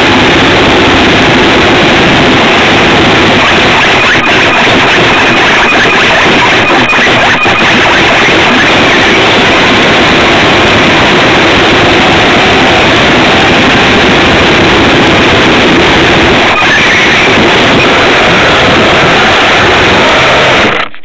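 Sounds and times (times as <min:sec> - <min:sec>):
rushing noise through snow: 0:00.0 - 0:20.9.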